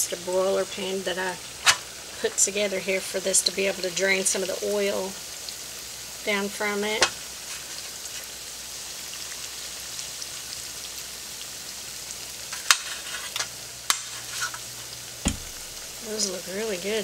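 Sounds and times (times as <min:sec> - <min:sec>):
meat sizzling in oil: 0:00.1 - 0:17.0.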